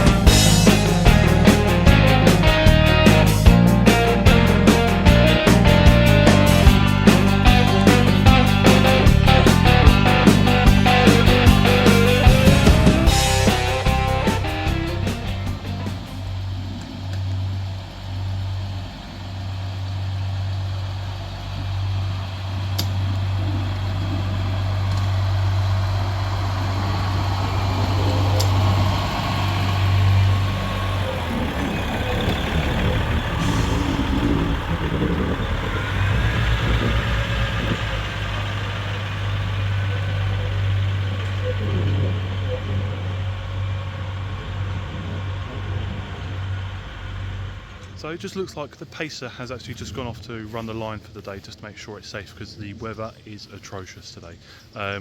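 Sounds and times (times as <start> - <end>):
diesel engine droning: 0.0 - 50.4.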